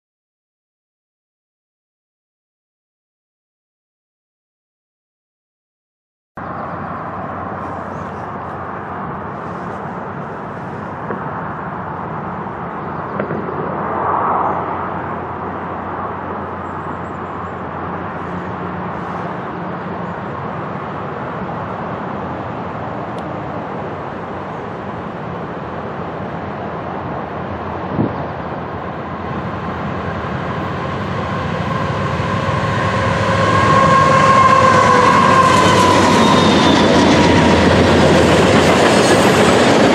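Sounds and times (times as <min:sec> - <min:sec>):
freight train passing: 0:06.4 - 0:39.9
steady whine: 0:06.4 - 0:39.9.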